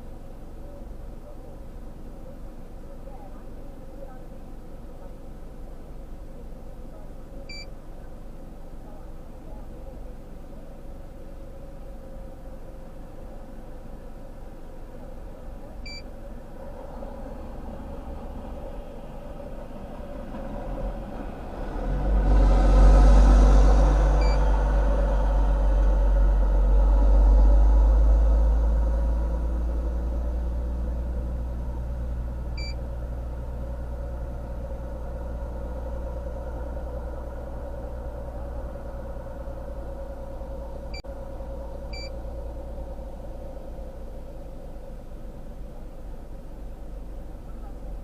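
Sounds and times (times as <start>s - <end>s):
vehicle engine rumbling: 0.0s - 48.0s.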